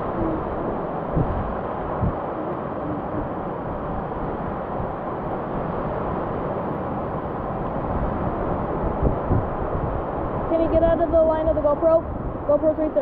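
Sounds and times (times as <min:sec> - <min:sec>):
surf on a beach: 0:00.0 - 0:13.0
wind on microphone: 0:00.0 - 0:13.0.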